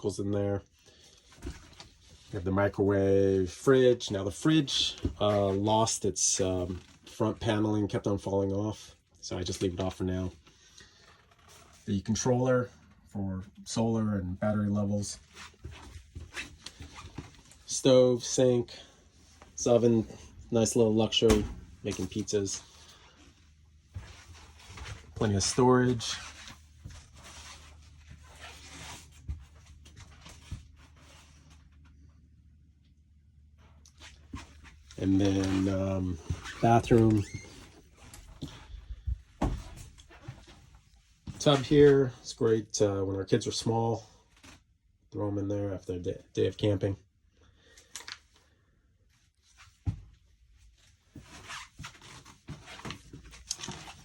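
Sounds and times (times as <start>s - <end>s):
faint rustling and handling noise: 0.0s - 45.0s, 47.5s - 54.0s.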